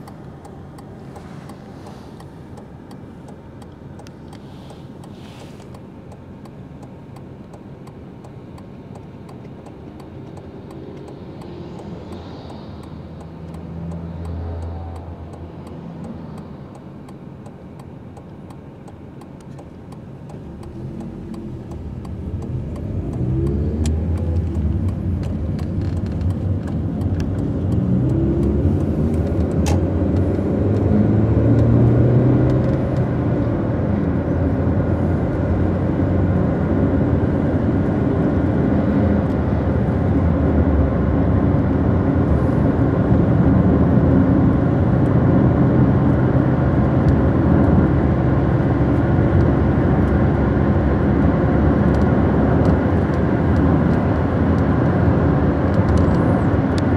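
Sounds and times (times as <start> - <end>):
car engine: 0.0 - 56.9
road noise: 0.0 - 56.9.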